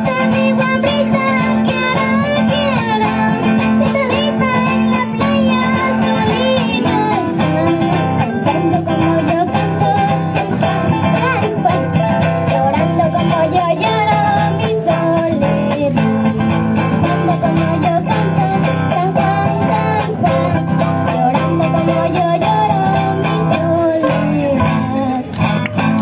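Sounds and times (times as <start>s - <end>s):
boy singing into microphone: 0.0s - 16.3s, 17.0s - 25.3s
guitars strummed and picked: 0.0s - 26.0s.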